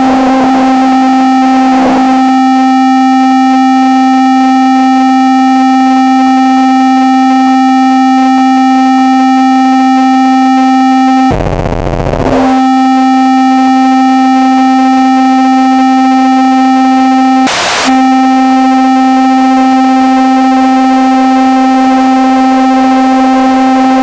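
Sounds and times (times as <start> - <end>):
distorted synthesizer tone: 0.0 - 24.0.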